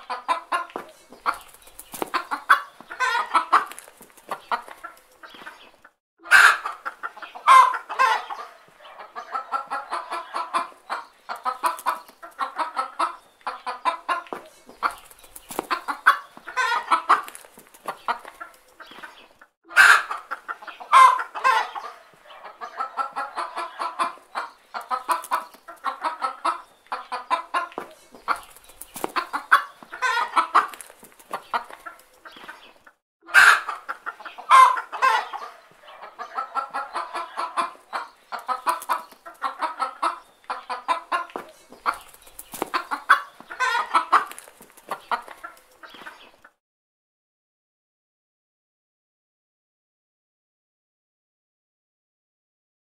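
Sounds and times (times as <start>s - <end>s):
chickens clucking: 0.0s - 46.6s.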